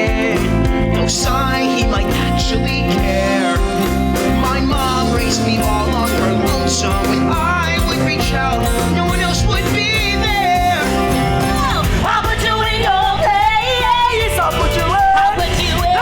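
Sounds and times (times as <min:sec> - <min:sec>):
singers with band: 0:00.0 - 0:16.0.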